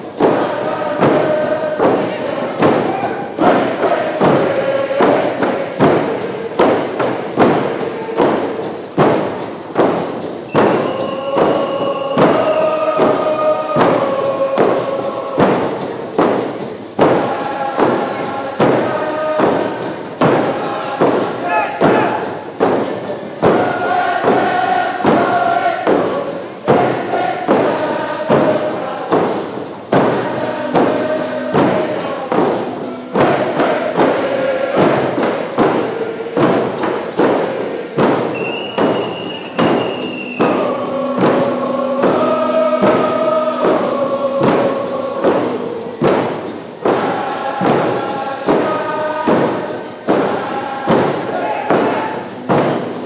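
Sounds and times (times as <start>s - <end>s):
frame drums beating: 0.0s - 53.0s
group of voices singing: 0.0s - 53.0s.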